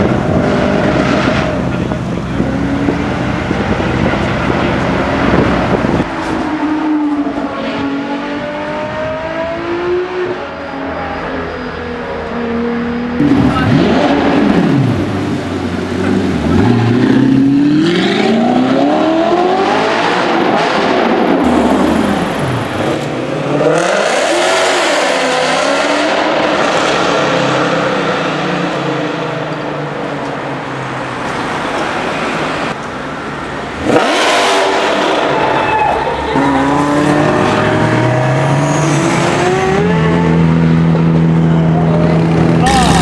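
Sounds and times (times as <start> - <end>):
car engines accelerating hard: 0.0 - 43.0.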